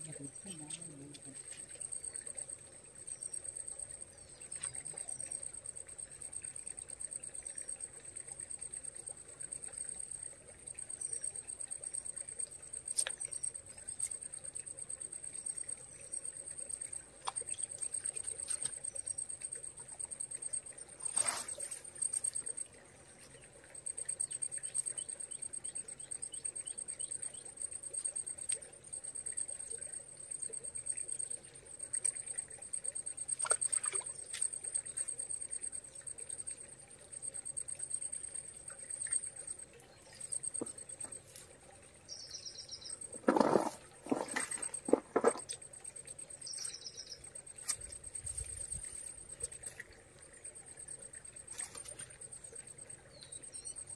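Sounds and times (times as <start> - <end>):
faint trickle of water: 0.0 - 53.9
insect trilling: 0.0 - 53.9.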